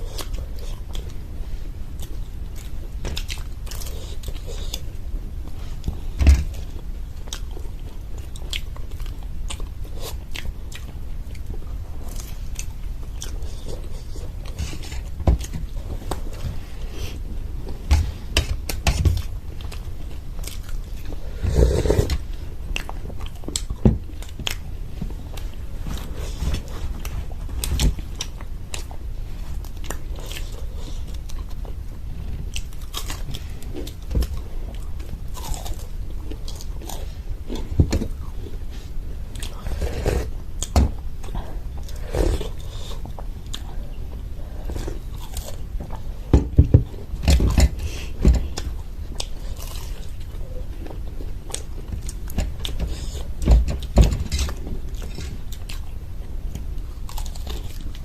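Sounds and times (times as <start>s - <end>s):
crunchy chewing: 0.0s - 46.3s, 46.9s - 58.0s
low steady hum: 0.0s - 58.0s.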